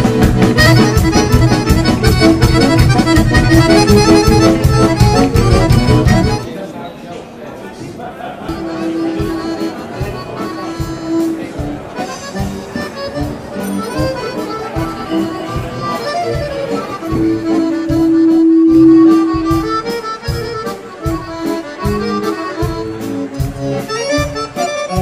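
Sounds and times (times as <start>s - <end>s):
steady beat: 0.0s - 6.4s, 8.5s - 25.0s
accordion music: 0.0s - 6.5s, 8.4s - 25.0s.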